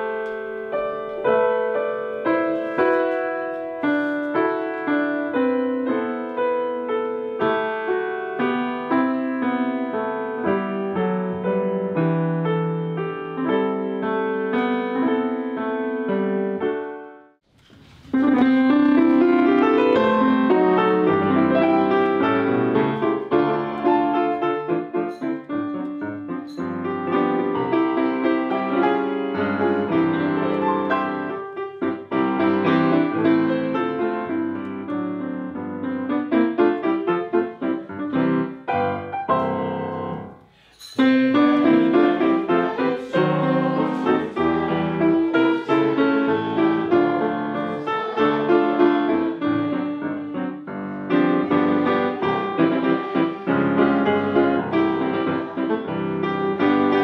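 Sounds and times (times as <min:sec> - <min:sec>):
solo grand piano playing: 0:00.0 - 0:57.0.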